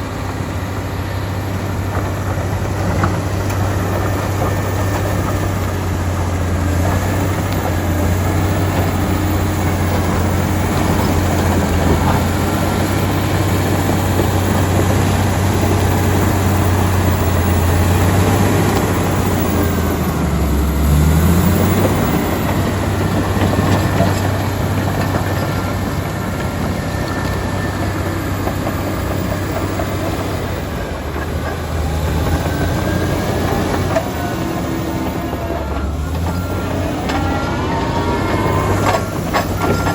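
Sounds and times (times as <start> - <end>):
dozer diesel engine running: 0.0 - 39.9
steel tracks clattering: 0.0 - 39.9.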